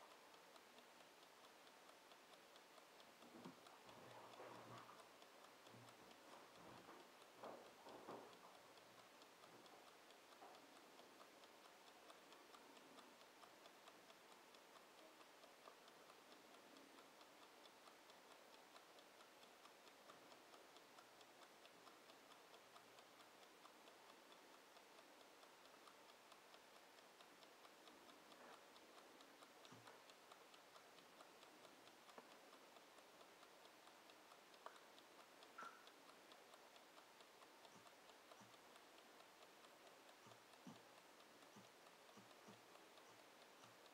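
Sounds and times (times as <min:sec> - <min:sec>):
kitchen timer ticking: 0:00.0 - 0:43.9
timer clicks: 0:00.0 - 0:43.9.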